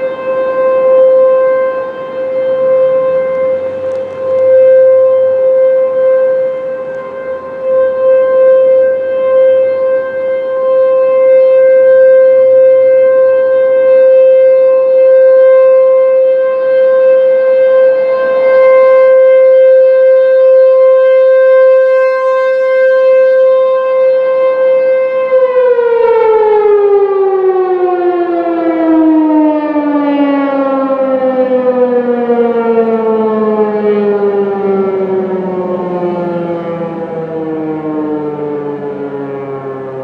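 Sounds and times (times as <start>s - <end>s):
warning siren winding down: 0.0s - 40.0s.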